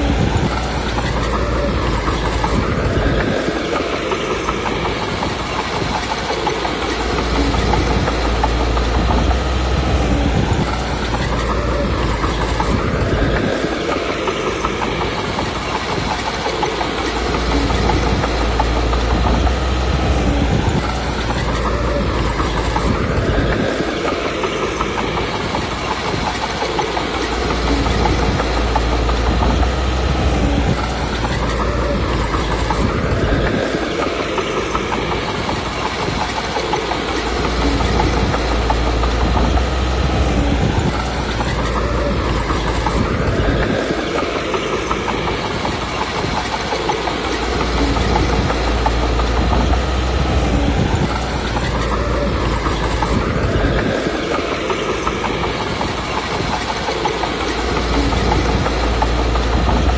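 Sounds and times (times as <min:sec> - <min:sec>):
bulldozer diesel engine under load: 0:00.0 - 0:59.9
steel tracks clattering: 0:00.0 - 0:59.9.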